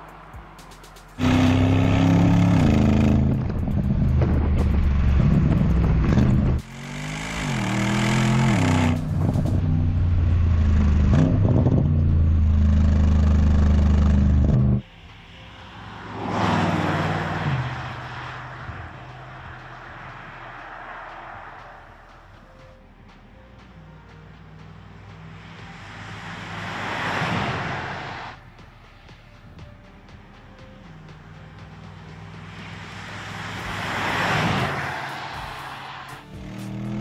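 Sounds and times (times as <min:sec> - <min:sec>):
car engine running at speed: 0:00.0 - 0:37.0.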